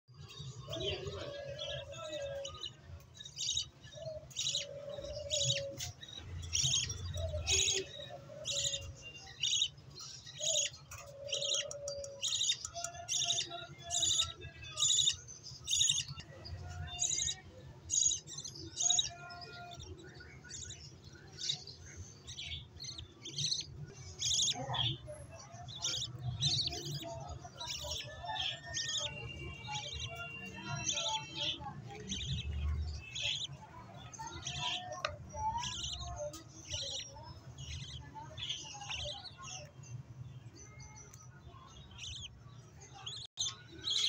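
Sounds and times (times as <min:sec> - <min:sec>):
bird chicks begging chirps: 0:00.7 - 0:44.0.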